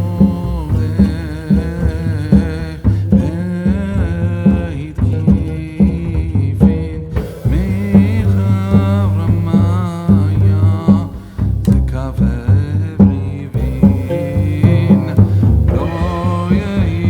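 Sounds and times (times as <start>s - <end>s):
melismatic singing: 0.0s - 6.5s, 7.2s - 17.0s
regular drum beat: 0.0s - 17.0s
steady bass line: 0.0s - 17.0s.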